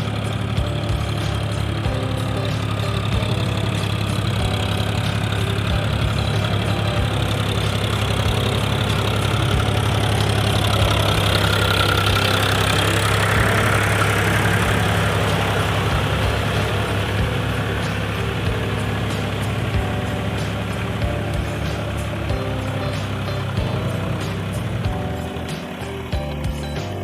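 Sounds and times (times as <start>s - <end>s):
rotavator churning mud: 0.0s - 27.0s
tractor diesel engine under load: 0.0s - 27.0s.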